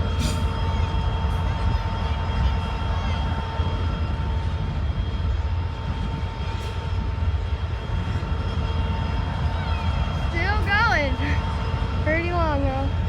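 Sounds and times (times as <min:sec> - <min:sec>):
freight train cars rolling: 0:00.0 - 0:13.0
thin steady whine: 0:00.0 - 0:13.0.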